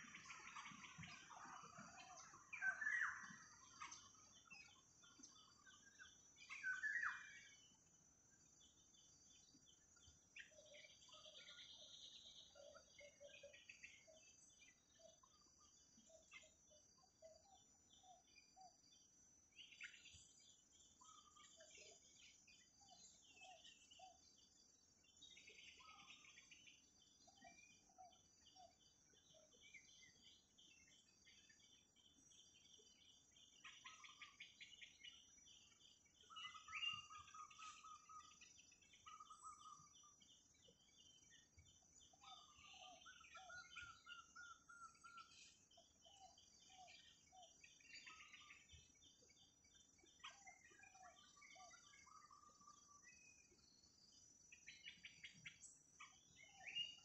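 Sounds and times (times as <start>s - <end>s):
birds chirping: 0.0s - 18.8s, 19.6s - 57.0s
insect drone: 0.0s - 57.0s.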